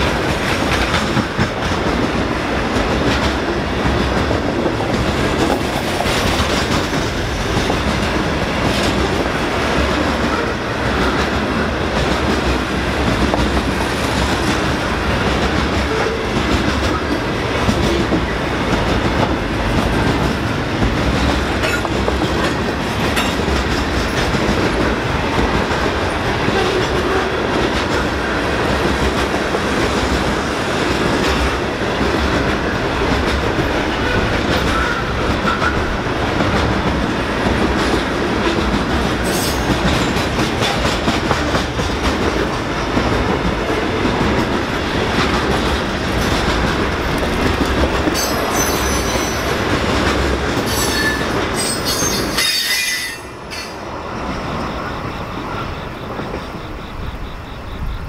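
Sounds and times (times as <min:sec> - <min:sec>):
wheels clacking over rail joints: 0:00.0 - 0:56.9
train wheels rumbling on rail: 0:00.0 - 0:58.0.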